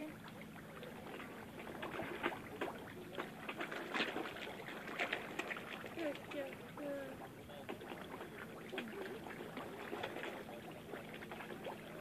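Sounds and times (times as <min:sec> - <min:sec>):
fish splashing at water surface: 0:00.0 - 0:12.0.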